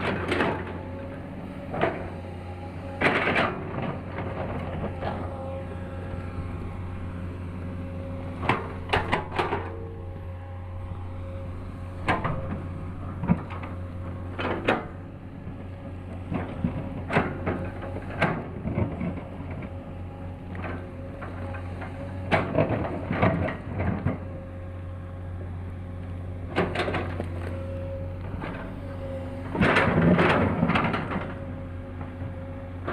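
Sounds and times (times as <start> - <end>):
excavator engine running: 0.0 - 32.9.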